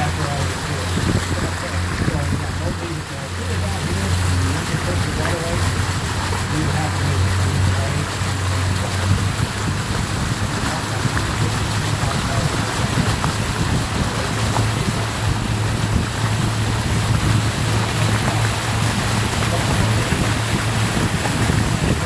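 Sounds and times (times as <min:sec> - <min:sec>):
boat motor humming: 0:00.0 - 0:22.0
wind on microphone: 0:00.0 - 0:22.0.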